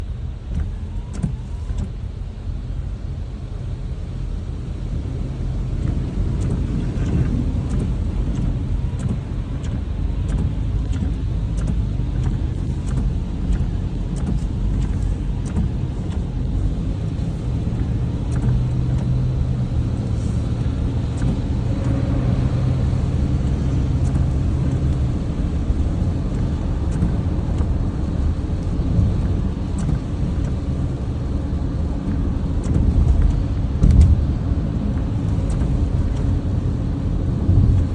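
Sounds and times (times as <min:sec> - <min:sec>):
car driving rumble: 0:00.0 - 0:37.9.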